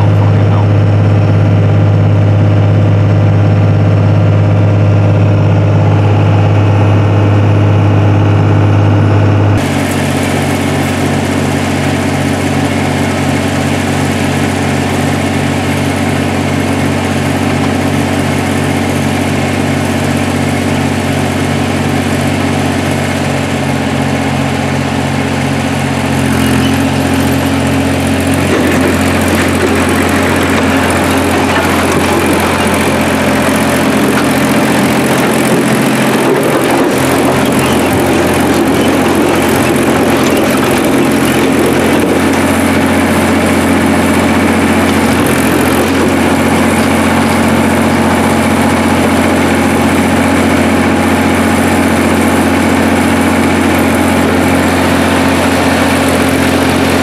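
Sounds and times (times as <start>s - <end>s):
diesel engine cruising: 0.0s - 57.0s
diesel engine running: 0.0s - 57.0s.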